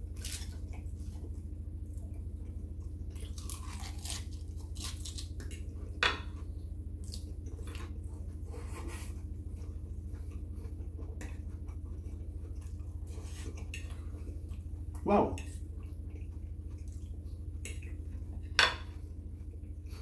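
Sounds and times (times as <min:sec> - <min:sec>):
person chewing wetly: 0:00.0 - 0:08.5, 0:09.2 - 0:20.0
steady low hum: 0:00.0 - 0:20.0.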